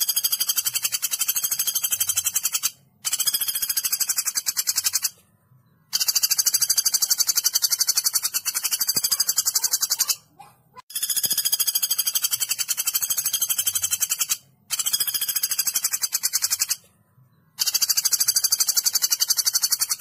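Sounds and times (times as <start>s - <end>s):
woodpecker rattle call: 0.0s - 5.2s, 5.9s - 16.8s, 17.6s - 20.0s.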